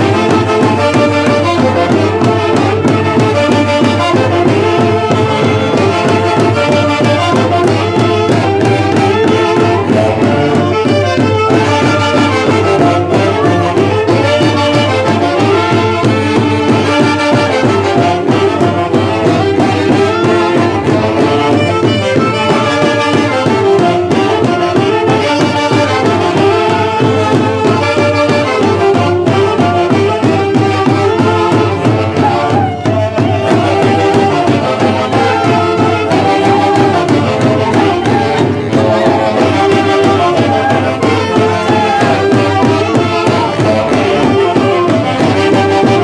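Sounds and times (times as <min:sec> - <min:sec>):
festival brass band playing: 0:00.0 - 0:46.0
steady drumbeat: 0:00.0 - 0:46.0.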